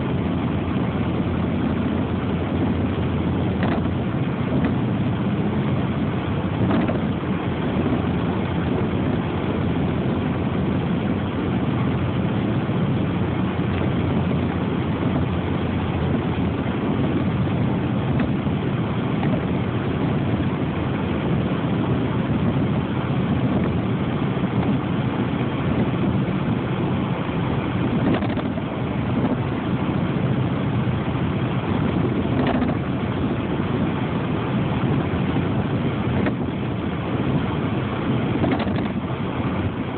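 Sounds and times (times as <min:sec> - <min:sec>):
vehicle running noise: 0:00.0 - 0:39.9.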